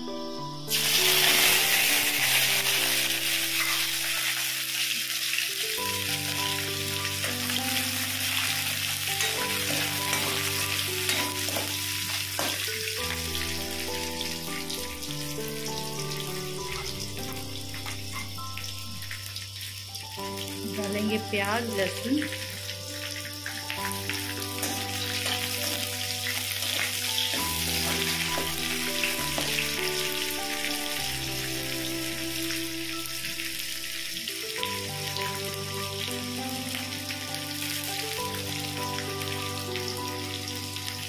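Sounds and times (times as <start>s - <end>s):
background music: 0.0s - 41.0s
fish sizzling in hot oil: 0.6s - 41.0s.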